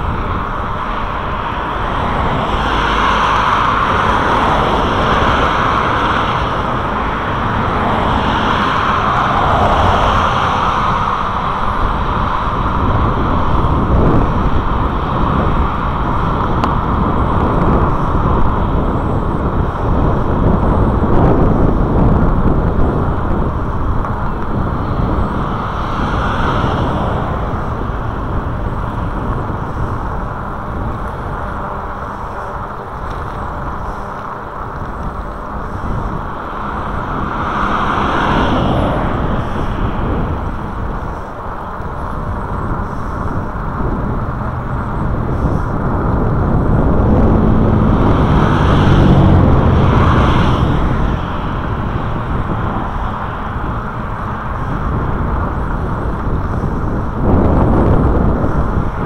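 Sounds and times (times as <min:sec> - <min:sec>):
cars passing: 0:00.0 - 0:59.0
wind on microphone: 0:00.0 - 0:59.0.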